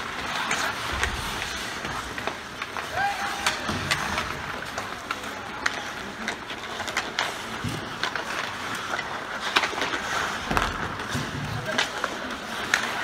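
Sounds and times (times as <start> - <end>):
hockey sticks clacking: 0.0 - 13.0
skate blades scraping ice: 0.0 - 13.0.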